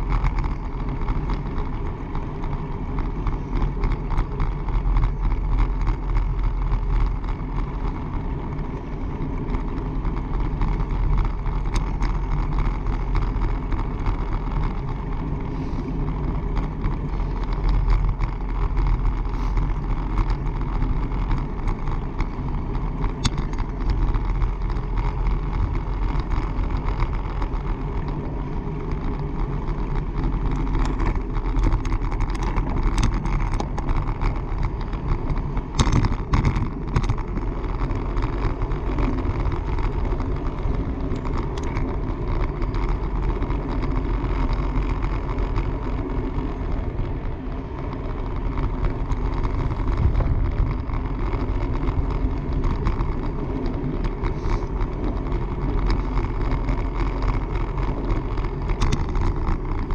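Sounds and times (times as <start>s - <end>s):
small clicks and ticks: 0.0s - 59.9s
wind and road rumble: 0.0s - 59.9s.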